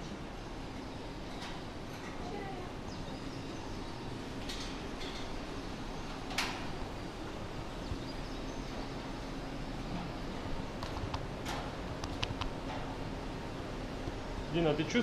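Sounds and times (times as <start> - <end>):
low machinery hum and hiss: 0.0 - 15.0.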